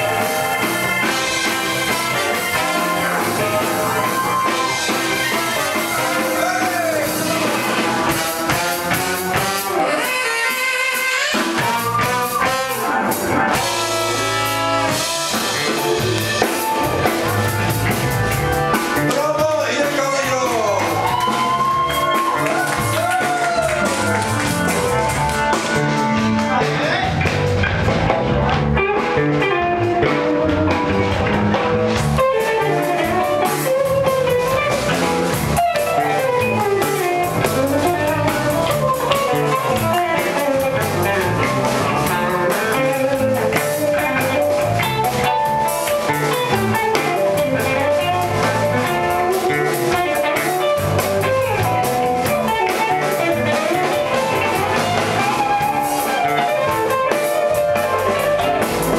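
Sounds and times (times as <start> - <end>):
drum kit beat: 0.0 - 58.9
guitar: 0.0 - 58.9.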